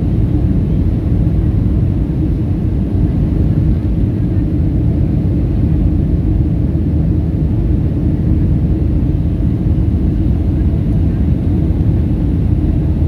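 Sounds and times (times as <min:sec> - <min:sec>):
jet engine rumble in cabin: 0:00.0 - 0:13.0.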